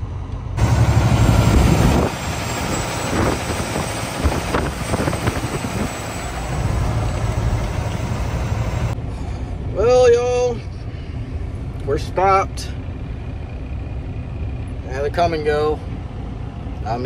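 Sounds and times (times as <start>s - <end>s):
diesel truck engine rumbling: 0.0s - 17.0s
road noise: 0.0s - 17.0s.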